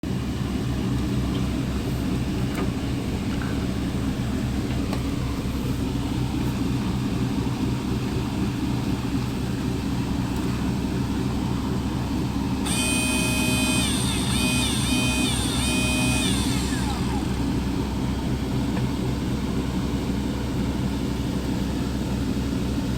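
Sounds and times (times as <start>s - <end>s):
low mechanical rumble: 0.0s - 22.9s.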